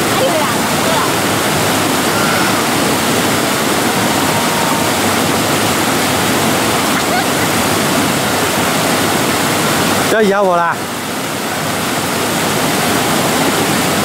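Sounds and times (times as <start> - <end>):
river pouring over boulders: 0.0 - 14.0
waterfall rushing: 0.0 - 14.0.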